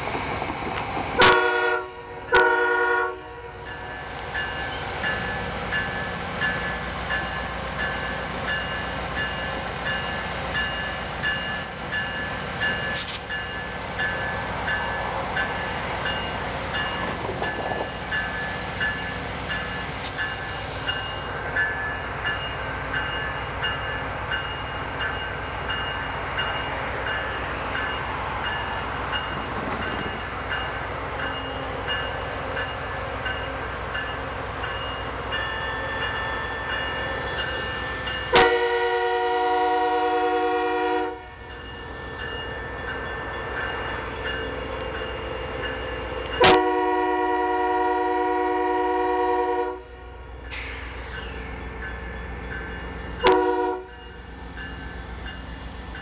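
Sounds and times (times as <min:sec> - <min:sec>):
diesel locomotive rumble: 0:00.0 - 0:56.0
crossing bell dinging: 0:03.3 - 0:56.0.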